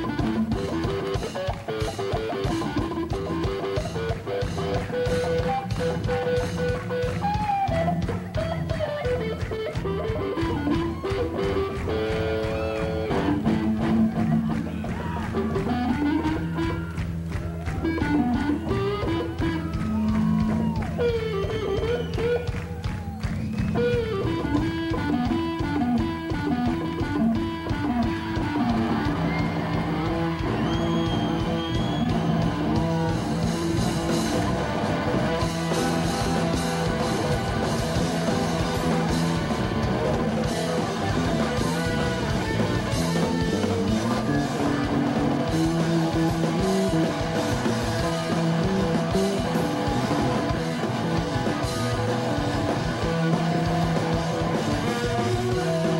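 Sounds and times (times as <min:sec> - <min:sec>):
drums: 0:00.0 - 0:55.9
electric guitar: 0:00.0 - 0:55.9.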